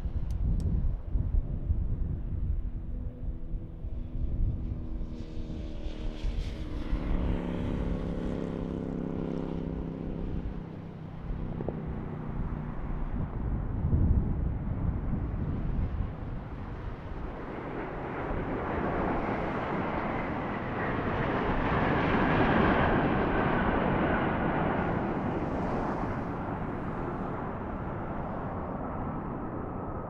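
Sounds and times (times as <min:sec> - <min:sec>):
jet engines roaring: 0:01.5 - 0:30.0.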